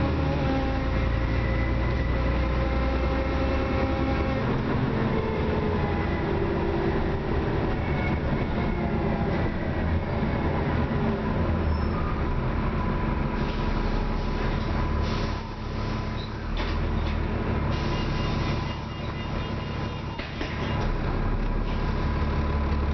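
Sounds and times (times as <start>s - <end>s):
bus engine rumble: 0.0s - 22.9s.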